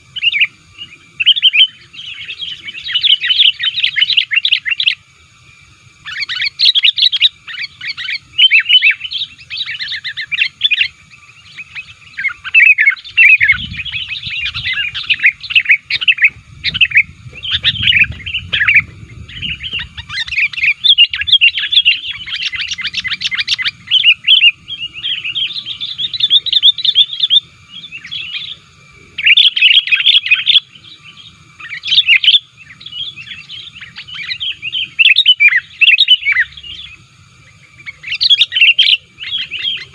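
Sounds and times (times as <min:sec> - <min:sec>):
bulbul singing loudly: 0:00.0 - 0:39.9.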